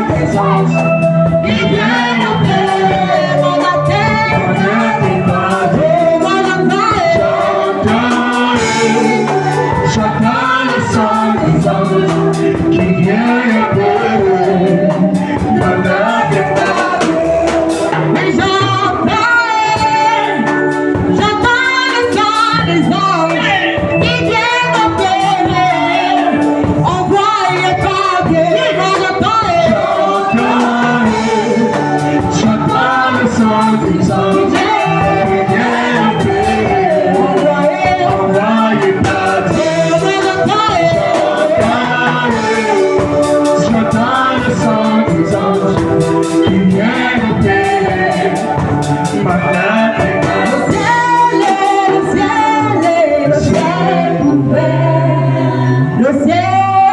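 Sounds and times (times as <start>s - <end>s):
band with steady beat and bass: 0.0s - 56.9s
voices singing gospel song: 0.0s - 56.9s.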